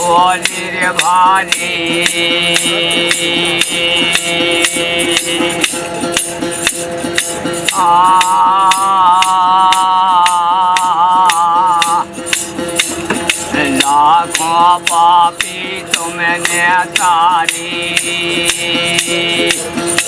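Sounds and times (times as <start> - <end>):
held drone notes: 0.0 - 20.0
shaker rattling a beat: 0.0 - 20.0
wavering held melody: 0.0 - 20.0.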